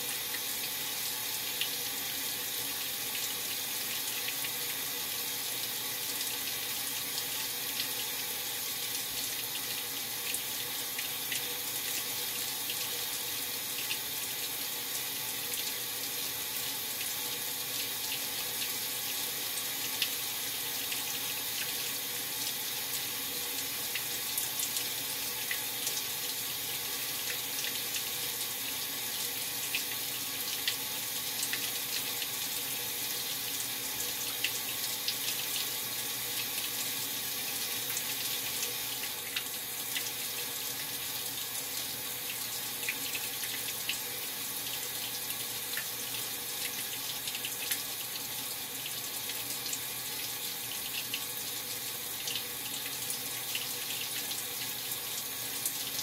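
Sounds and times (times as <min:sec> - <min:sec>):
water pouring into washer tub: 0:00.0 - 0:56.0.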